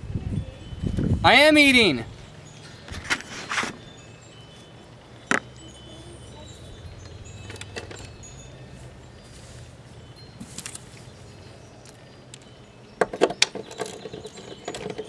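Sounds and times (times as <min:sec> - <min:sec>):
metallic clinks: 0:00.4 - 0:15.0.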